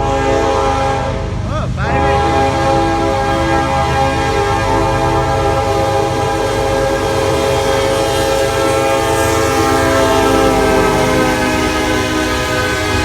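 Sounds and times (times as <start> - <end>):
locomotive air horn: 0.0 - 13.0
passing train rumble: 0.0 - 13.0.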